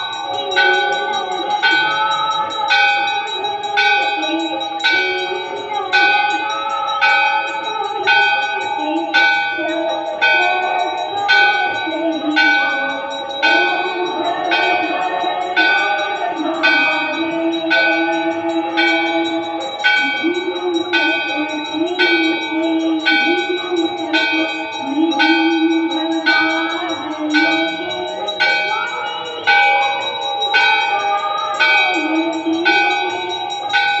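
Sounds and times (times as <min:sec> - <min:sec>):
temple bell ringing: 0:00.0 - 0:34.0
voices singing: 0:00.0 - 0:34.0.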